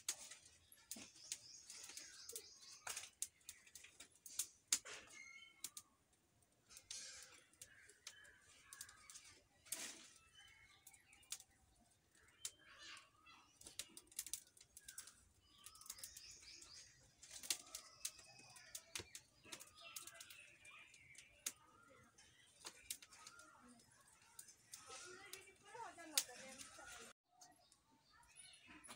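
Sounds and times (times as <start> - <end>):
faint birds chirping: 0.0 - 28.9
twigs crackling in fire: 0.0 - 28.9.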